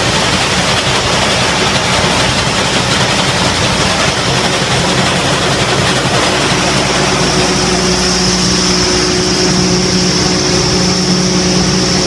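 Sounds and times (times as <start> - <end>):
machine drone: 0.0 - 12.0
high-pitched whine: 1.5 - 12.0.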